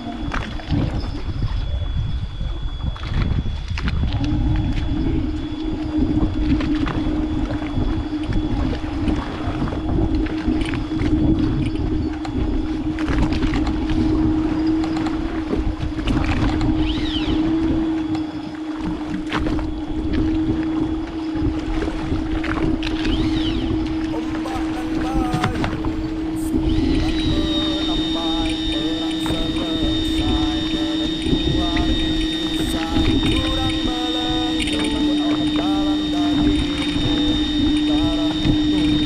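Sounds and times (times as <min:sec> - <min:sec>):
boat engine drone: 0:00.0 - 0:39.0.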